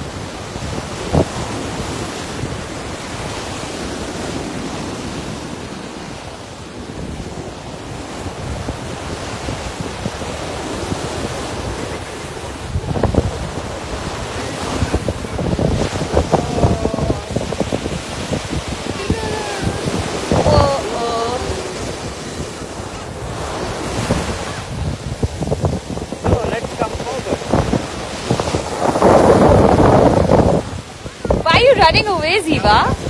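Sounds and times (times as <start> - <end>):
surf washing on beach: 0.0 - 33.0
wind buffeting microphone: 0.0 - 33.0.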